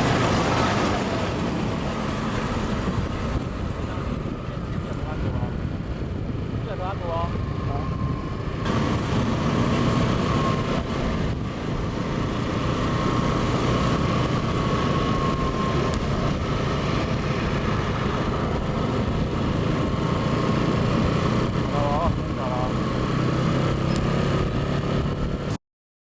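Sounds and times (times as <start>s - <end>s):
diesel locomotive engine running: 0.0s - 25.5s.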